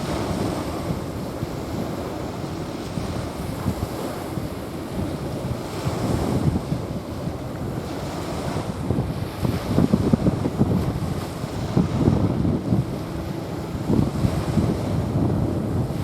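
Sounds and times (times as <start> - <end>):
small waves washing onto sand: 0.0 - 16.0
wind buffeting microphone: 0.0 - 16.0.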